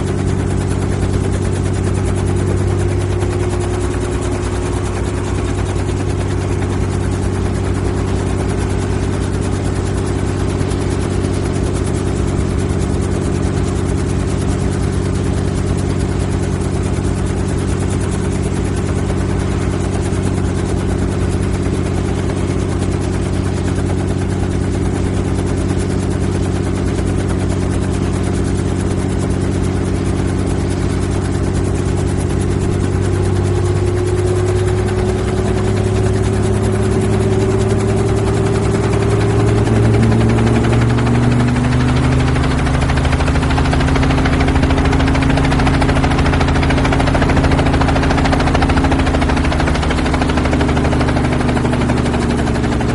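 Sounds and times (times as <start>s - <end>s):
helicopter engine and rotor drone: 0.0s - 52.9s.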